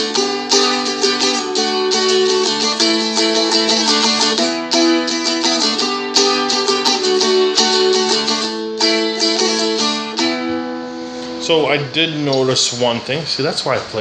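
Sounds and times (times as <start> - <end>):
strummed dulcimer chords: 0.0 - 13.9.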